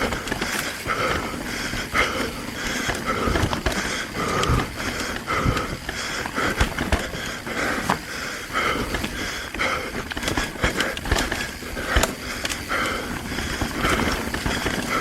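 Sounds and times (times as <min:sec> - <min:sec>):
mountain bike rattling and knocking: 0:00.0 - 0:15.0
person breathing hard: 0:00.0 - 0:15.0
tyres on rocky trail: 0:00.0 - 0:15.0.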